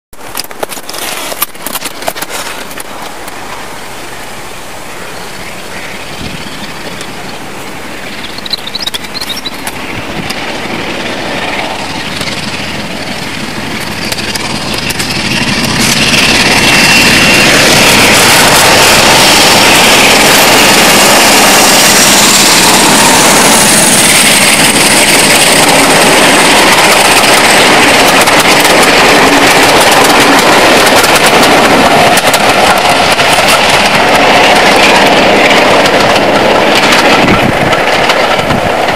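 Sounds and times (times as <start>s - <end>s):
diesel locomotives working hard: 0.2s - 38.9s
train coaches running past: 0.2s - 38.9s.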